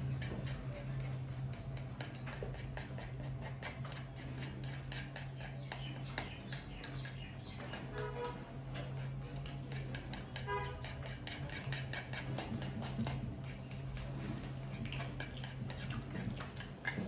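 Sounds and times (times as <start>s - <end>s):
person chewing noodles: 0.0s - 7.9s, 8.9s - 17.0s.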